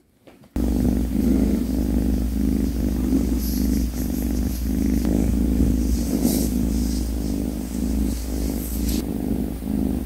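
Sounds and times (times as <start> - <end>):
kitten purring: 0.6 - 10.0.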